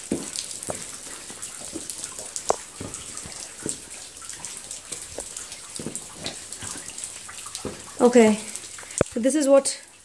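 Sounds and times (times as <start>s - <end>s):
water drops falling in a cave: 0.0s - 10.0s
wet hiss of trickling water: 0.0s - 10.0s.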